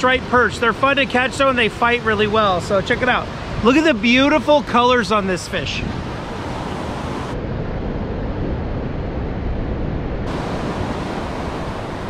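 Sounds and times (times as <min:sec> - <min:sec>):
ocean surf: 0:00.0 - 0:12.0
wind rumbling on microphone: 0:00.0 - 0:12.0.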